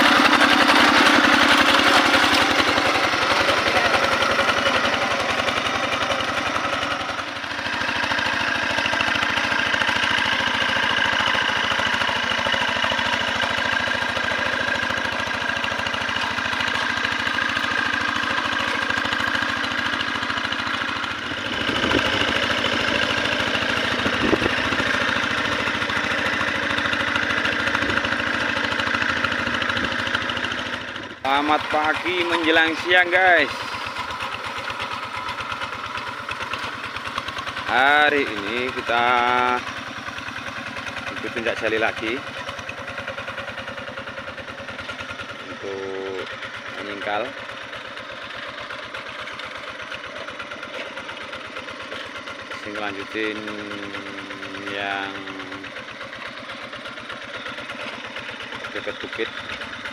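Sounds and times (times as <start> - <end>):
diesel hand tractor engine running: 0.0 - 59.9.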